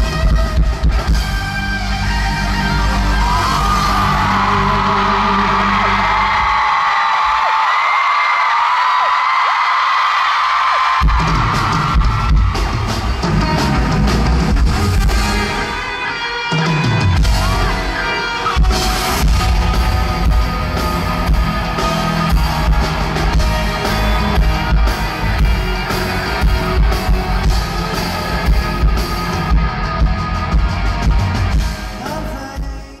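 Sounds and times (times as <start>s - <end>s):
live rock band playing: 0.0s - 6.7s, 11.0s - 33.0s
electric guitar: 0.0s - 6.8s, 11.2s - 32.8s
drums: 0.0s - 33.0s.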